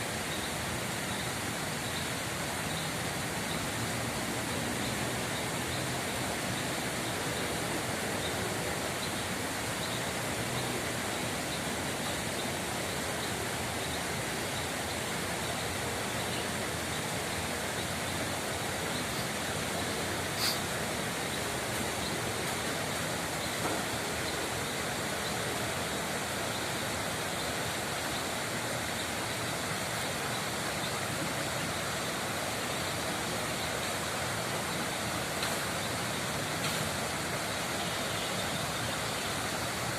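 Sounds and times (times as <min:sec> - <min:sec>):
flowing rippling water: 0:00.0 - 0:39.9.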